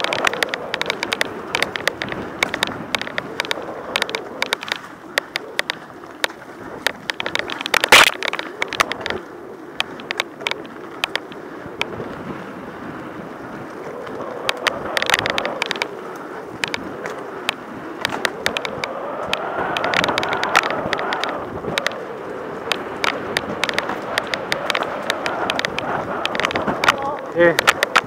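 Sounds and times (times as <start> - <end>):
bike clattering over bumps: 0.0 - 12.3, 13.4 - 28.0
bike tyres rolling on dirt: 0.0 - 28.0.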